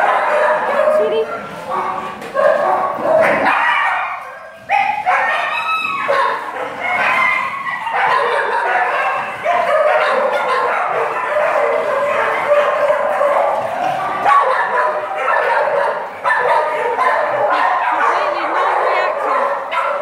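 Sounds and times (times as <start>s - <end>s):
dogs barking and whining: 0.0s - 20.0s.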